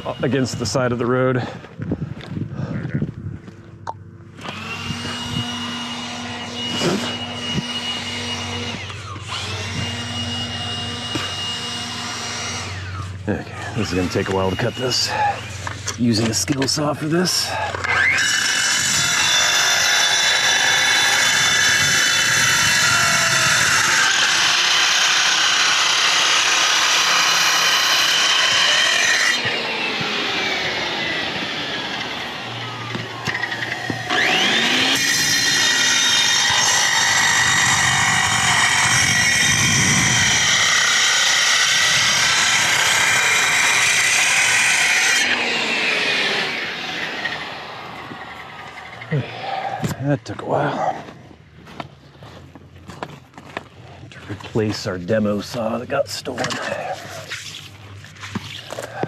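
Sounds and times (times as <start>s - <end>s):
circular saw cutting concrete: 0.0s - 1.6s, 4.4s - 50.9s.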